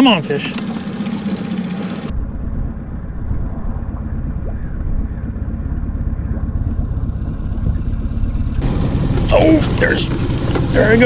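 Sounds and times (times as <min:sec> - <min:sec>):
boat motor rumbling: 0:00.0 - 0:11.0.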